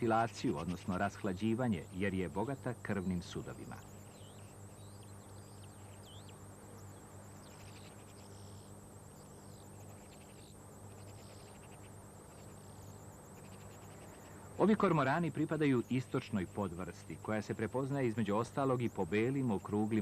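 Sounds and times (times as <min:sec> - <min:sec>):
faint high-pitched bird calls: 0:00.0 - 0:20.0
low hum and hiss: 0:00.0 - 0:20.0.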